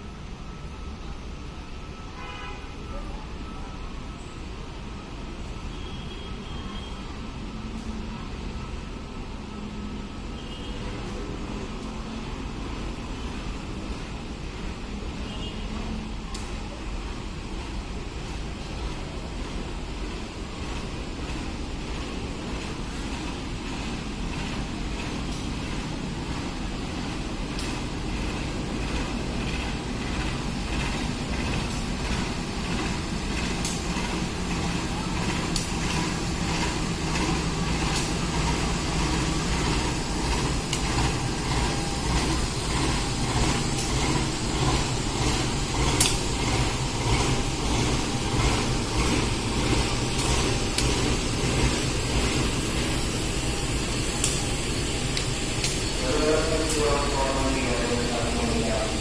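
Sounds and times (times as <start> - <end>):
train rumbling: 10.9 - 59.0.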